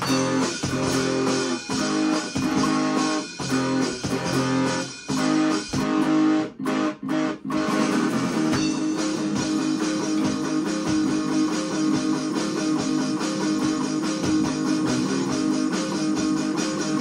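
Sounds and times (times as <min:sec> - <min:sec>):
rock band with layered guitars: 0:00.0 - 0:17.0.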